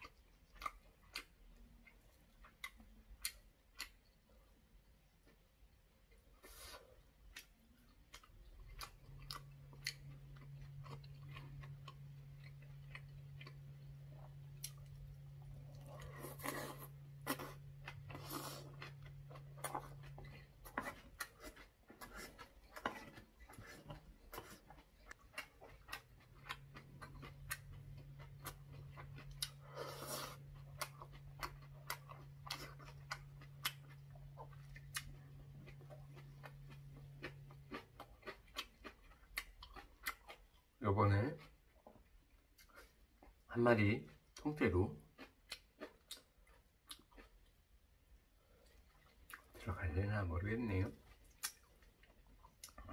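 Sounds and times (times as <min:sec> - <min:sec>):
person chewing food: 0:00.0 - 0:50.0, 0:50.6 - 0:52.9
steady low hum: 0:00.0 - 0:52.9.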